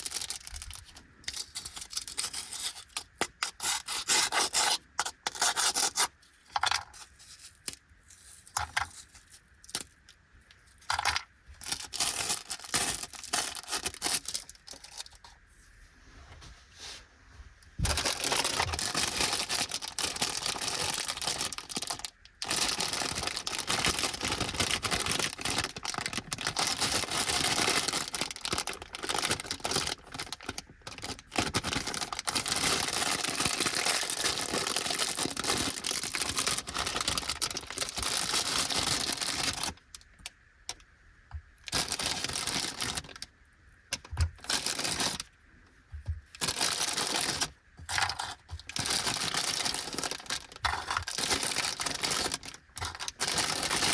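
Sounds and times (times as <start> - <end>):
plastic snack bag crinkling: 0.0 - 7.8, 8.4 - 15.3, 17.8 - 40.1, 41.6 - 43.3, 43.9 - 45.3, 46.4 - 53.9.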